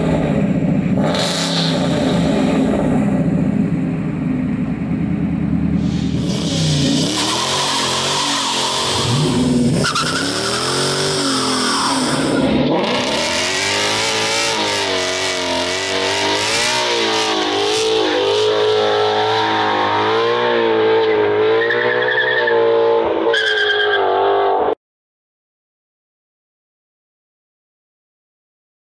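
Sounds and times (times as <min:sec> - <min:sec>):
car engine revving: 0:00.0 - 0:24.8.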